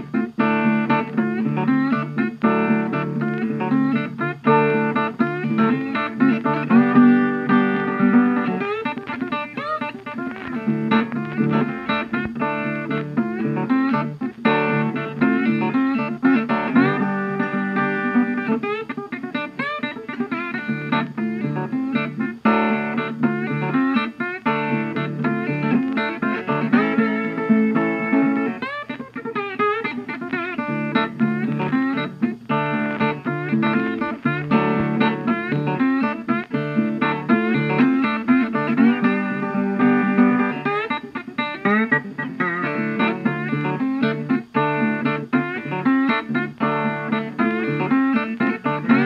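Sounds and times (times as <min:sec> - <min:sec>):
plucked guitar music: 0:00.0 - 0:49.0.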